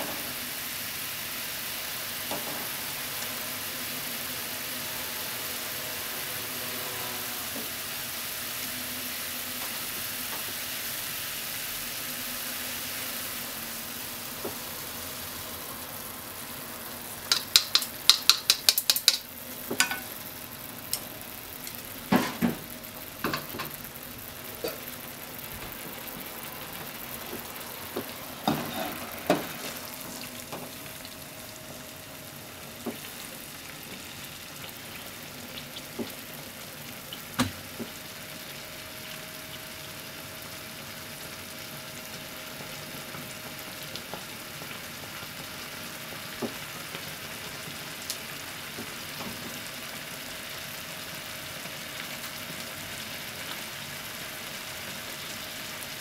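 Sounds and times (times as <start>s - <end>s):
fritters sizzling in a frying pan: 0.0s - 56.0s.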